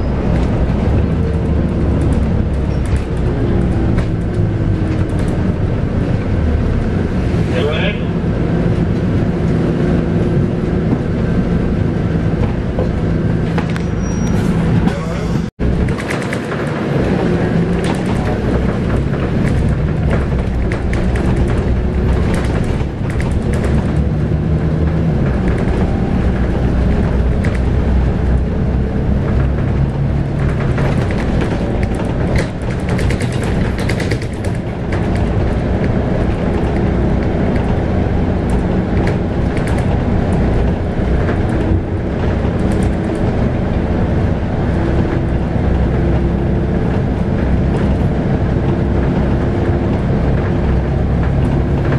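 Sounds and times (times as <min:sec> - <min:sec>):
bus diesel engine: 0:00.0 - 0:51.9
road noise: 0:00.0 - 0:51.9.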